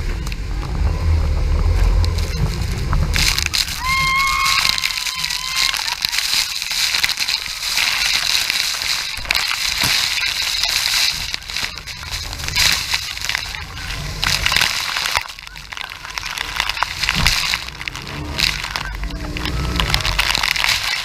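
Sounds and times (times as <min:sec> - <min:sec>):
waterfall roaring and splashing: 0:00.0 - 0:21.0.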